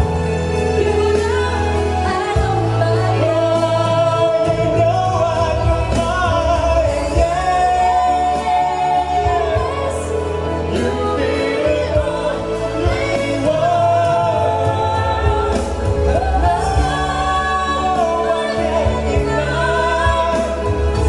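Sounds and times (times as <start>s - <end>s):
band playing pop ballad: 0.0s - 21.0s
bass line: 0.0s - 21.0s
person singing: 0.0s - 21.0s.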